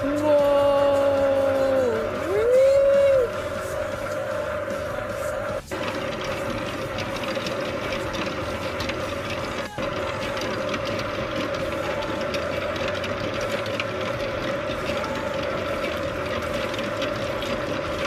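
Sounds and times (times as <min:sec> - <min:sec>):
mixing machine motor humming: 0:00.0 - 0:18.0.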